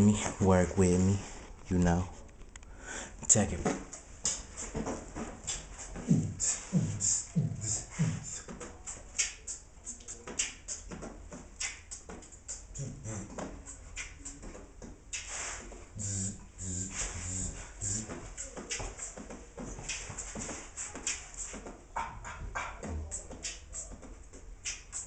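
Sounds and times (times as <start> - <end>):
beatbox bass kicks: 3.5 - 25.0
beatbox hi-hat and snare: 4.2 - 25.0.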